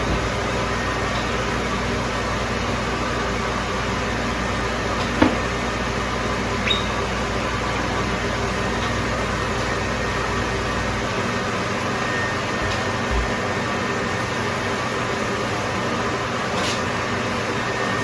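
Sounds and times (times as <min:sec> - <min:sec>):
dryer heater and blower hum: 0:00.0 - 0:18.0.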